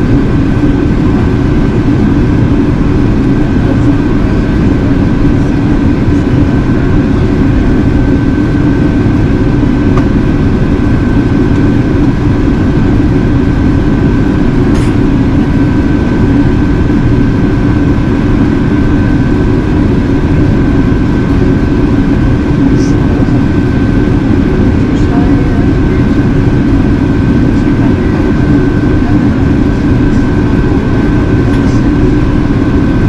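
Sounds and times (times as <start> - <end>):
airplane cabin drone: 0.0 - 33.0
faint high whine: 0.0 - 33.0.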